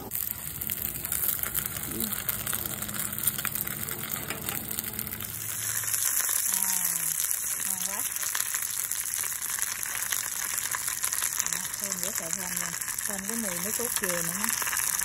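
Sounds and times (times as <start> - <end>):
pancake sizzling in hot oil: 0.0 - 15.0.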